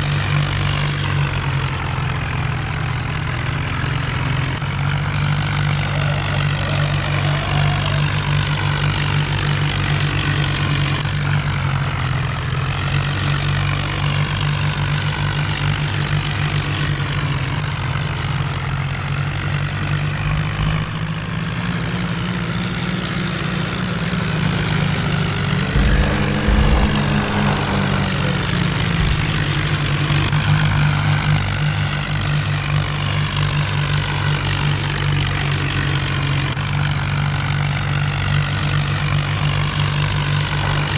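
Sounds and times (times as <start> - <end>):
tractor engines running under load: 0.0 - 40.9.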